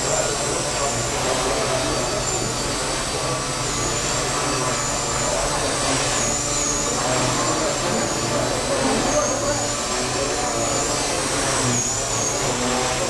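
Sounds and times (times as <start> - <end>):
rc helicopter motor whine: 0.0 - 13.0.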